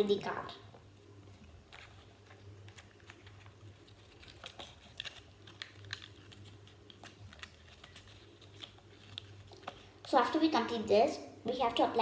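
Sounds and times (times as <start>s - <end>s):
paper crinkling: 0.1s - 10.4s.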